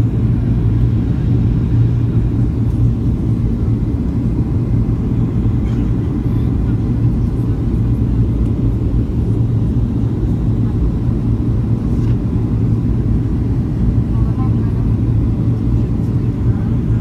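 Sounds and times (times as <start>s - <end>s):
airflow over fuselage: 0.0s - 17.0s
jet engines droning in cabin: 0.0s - 17.0s.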